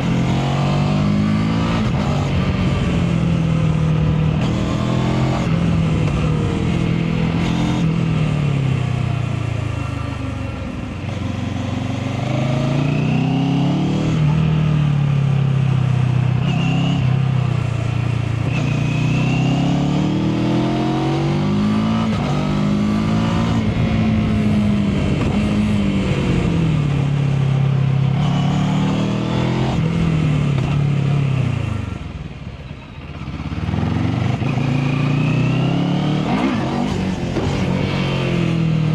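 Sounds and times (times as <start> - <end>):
motorcycle engine revving: 0.0 - 32.1, 33.0 - 38.9.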